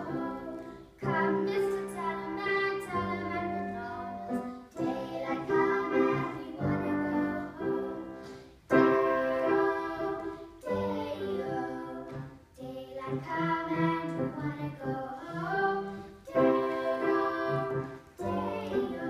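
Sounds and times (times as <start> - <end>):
girls singing a duet: 0.0 - 19.0
piano accompaniment: 0.0 - 19.0.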